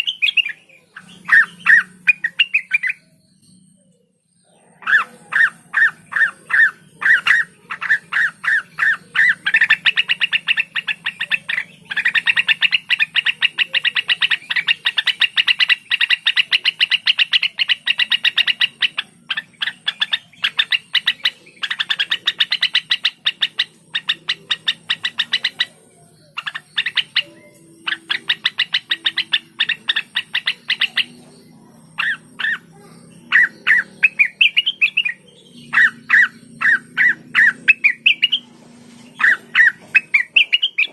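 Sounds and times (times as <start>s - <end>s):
bird singing rapid trills: 0.0s - 40.9s.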